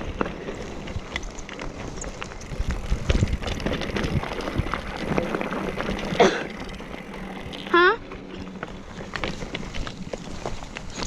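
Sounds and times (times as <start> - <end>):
bike rattling over bumps: 0.0 - 11.0
bike tyres on dirt trail: 0.0 - 11.0.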